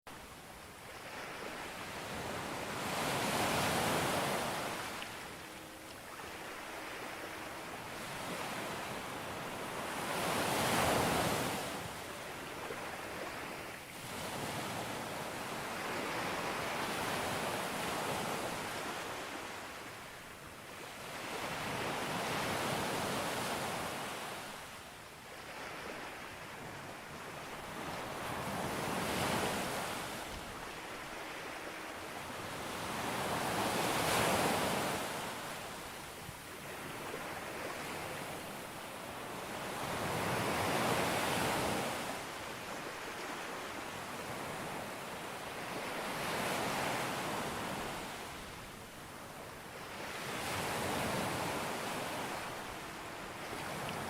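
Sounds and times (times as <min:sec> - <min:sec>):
ocean waves breaking on beach: 0:00.1 - 0:54.0.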